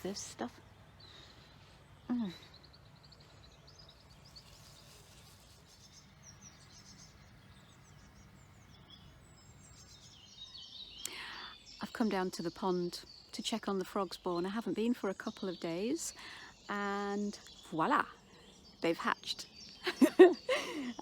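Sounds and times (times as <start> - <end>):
small birds singing: 0.0 - 21.0.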